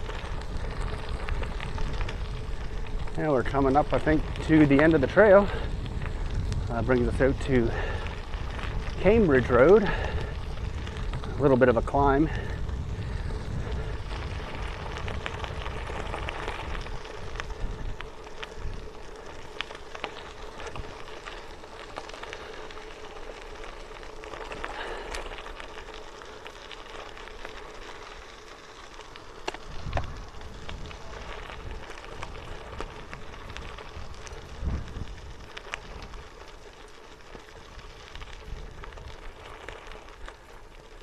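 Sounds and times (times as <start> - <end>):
wind rumble on microphone: 0.0 - 26.0, 29.4 - 41.0
bicycle tyres on gravel: 0.0 - 41.0.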